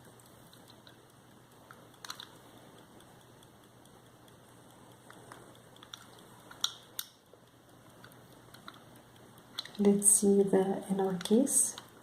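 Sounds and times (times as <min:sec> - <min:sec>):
pocket watch clicks and taps: 0:00.2 - 0:09.9.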